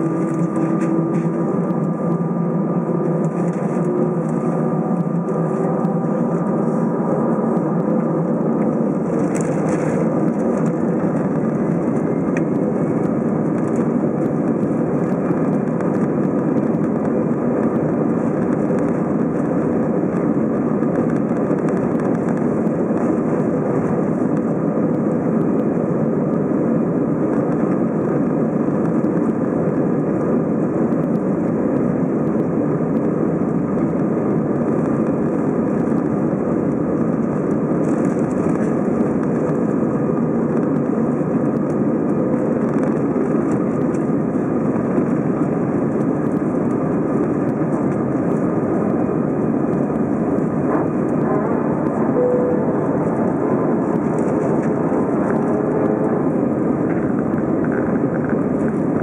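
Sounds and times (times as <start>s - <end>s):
airplane engine and rolling noise: 0.0s - 59.0s.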